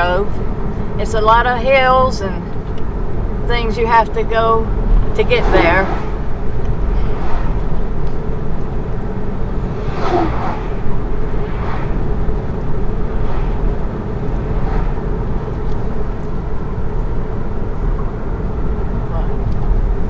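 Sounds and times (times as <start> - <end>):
road and tyre noise: 0.0 - 20.0.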